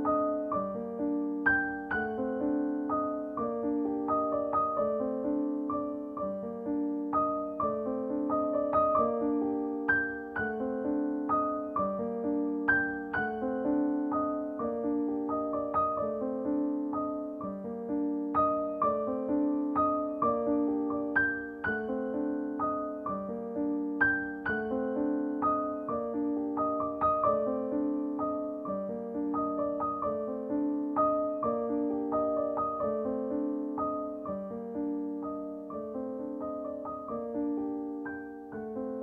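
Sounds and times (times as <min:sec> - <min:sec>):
gentle solo piano: 0:00.0 - 0:39.0.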